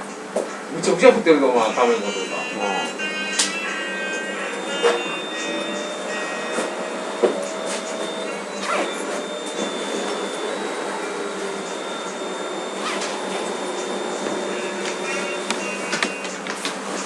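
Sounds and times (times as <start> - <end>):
faint steady whines: 0.0 - 17.0
mechanical running noise: 2.0 - 17.0.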